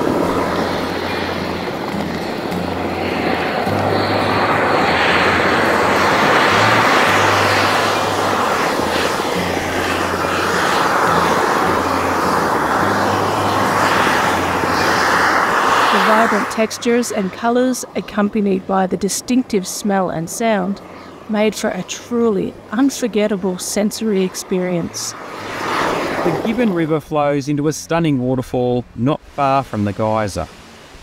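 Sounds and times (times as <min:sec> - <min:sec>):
hot pool boiling and bubbling: 0:00.0 - 0:26.8.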